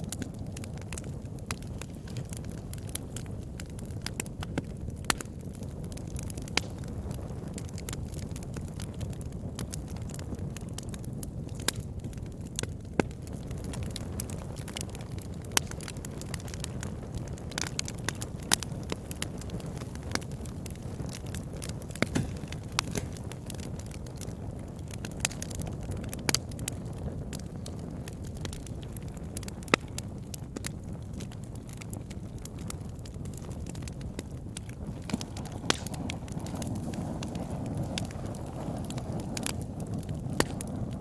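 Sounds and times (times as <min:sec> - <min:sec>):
campfire crackling and popping: 0:00.0 - 0:41.0
low rumble of flames: 0:00.0 - 0:41.0.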